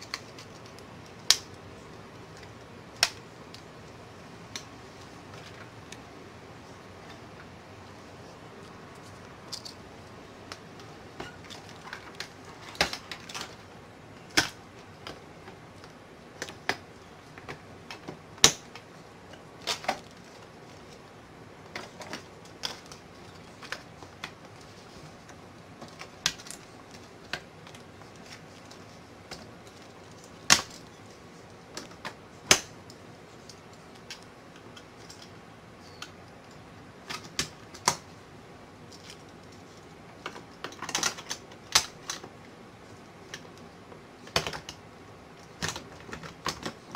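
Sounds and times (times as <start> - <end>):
steady low hiss: 0.0 - 46.9.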